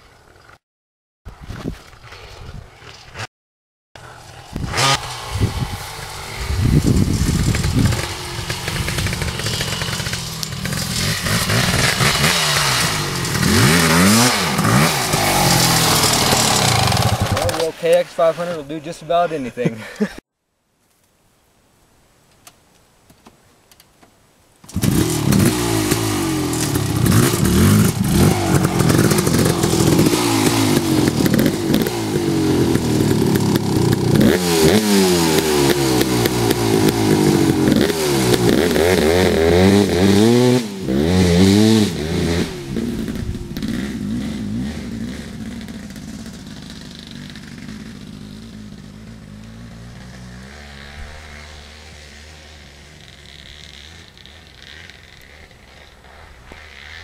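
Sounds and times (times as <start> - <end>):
dirt bike engine revving: 4.0 - 18.5, 24.6 - 57.0.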